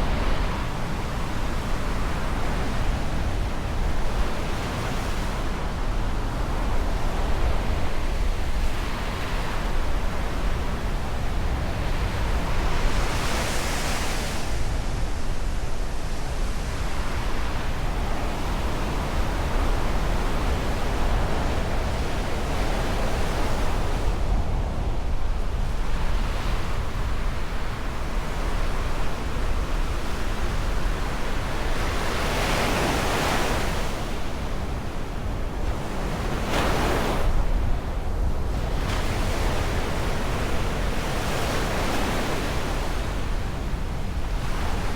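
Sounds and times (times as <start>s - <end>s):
surf washing on shore: 0.0s - 44.9s
wind rumbling on microphone: 0.0s - 44.9s.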